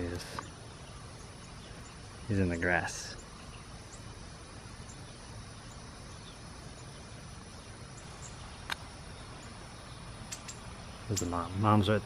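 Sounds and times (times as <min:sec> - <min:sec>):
bird chirping: 0:00.0 - 0:12.0
faint outdoor background: 0:00.0 - 0:12.0.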